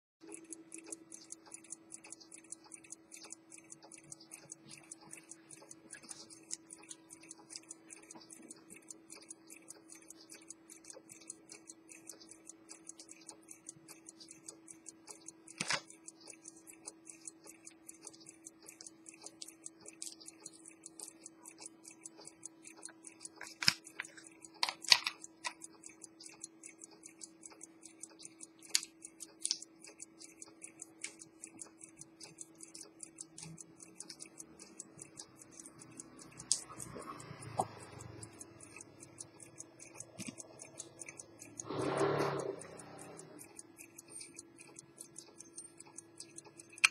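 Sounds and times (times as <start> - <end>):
pocket watch ticking fast: 0.2 - 46.9.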